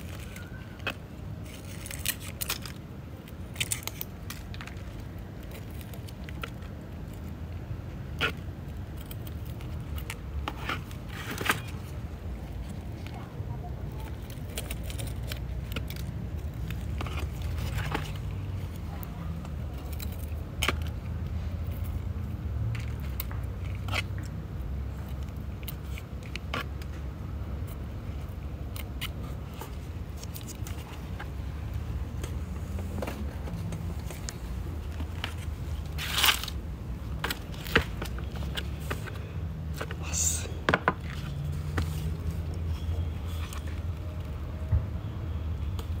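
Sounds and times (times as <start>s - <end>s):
dry leaves crackling and snapping: 0.0s - 31.2s, 34.0s - 40.2s.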